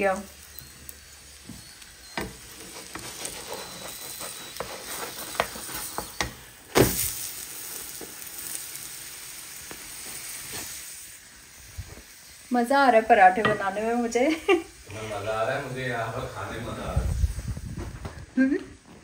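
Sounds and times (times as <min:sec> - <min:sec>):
flatbread sizzling on a hot pan: 0:00.0 - 0:18.8.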